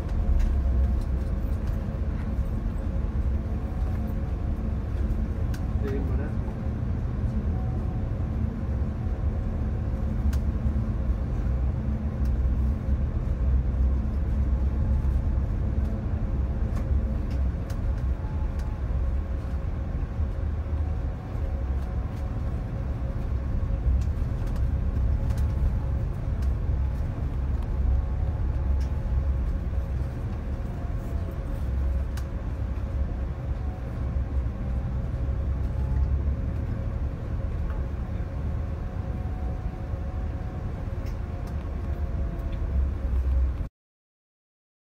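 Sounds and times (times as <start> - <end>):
bus engine and tyres rumbling: 0.0 - 43.7.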